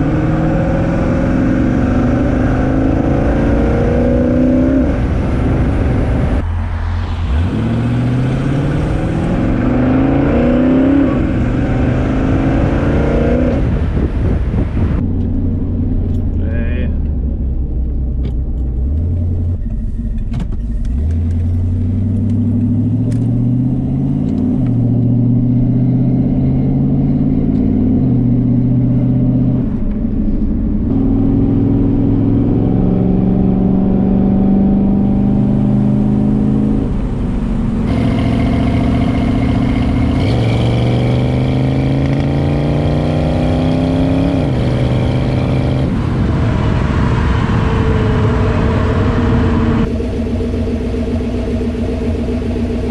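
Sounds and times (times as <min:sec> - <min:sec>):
car engine revving through gears: 0:00.0 - 0:15.5, 0:18.2 - 0:52.9.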